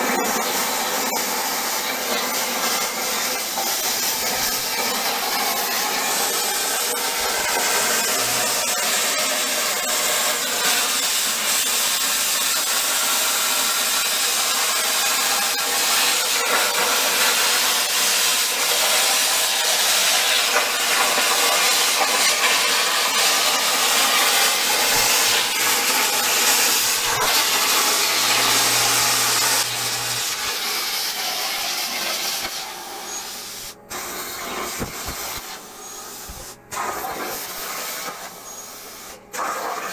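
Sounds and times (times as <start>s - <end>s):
plasma torch hissing: 0.0s - 39.9s.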